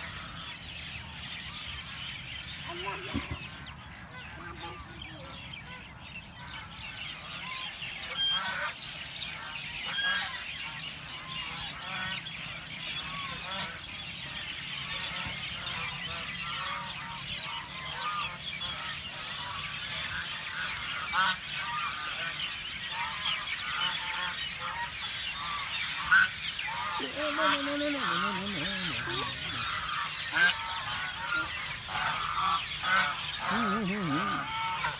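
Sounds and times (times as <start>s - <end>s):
small birds chirping: 0.0s - 34.9s
waterfowl honking: 0.0s - 34.9s.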